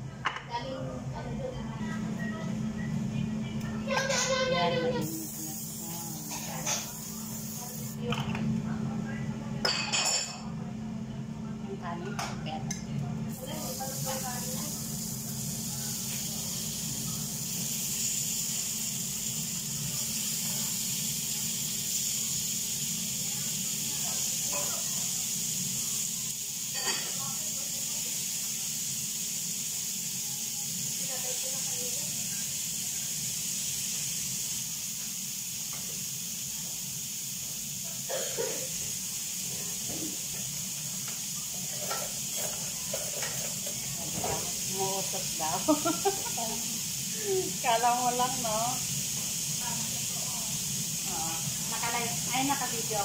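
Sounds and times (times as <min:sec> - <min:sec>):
skewers sizzling on griddle: 0:03.6 - 0:08.2, 0:13.3 - 0:53.0.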